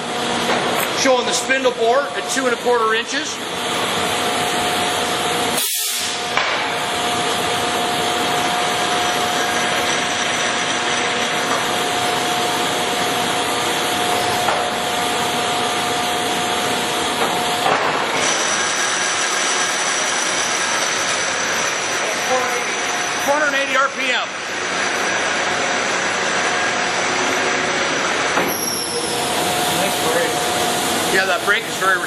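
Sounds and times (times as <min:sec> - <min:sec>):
lathe humming and whining: 0:00.0 - 0:32.0.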